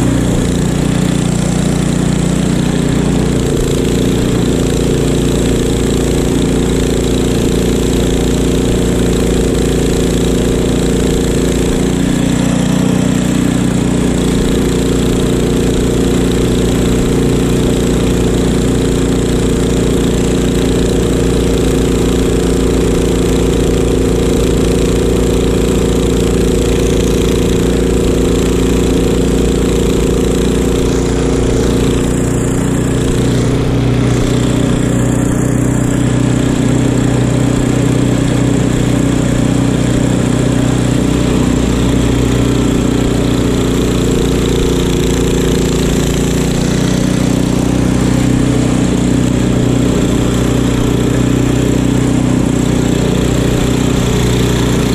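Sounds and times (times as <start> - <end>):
snowblower engine running: 0.0 - 54.9.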